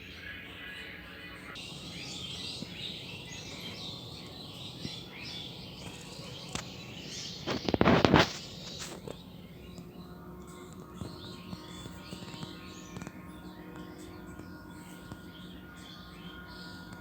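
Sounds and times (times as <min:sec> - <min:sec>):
birds chirping in chorus: 0:00.0 - 0:17.0.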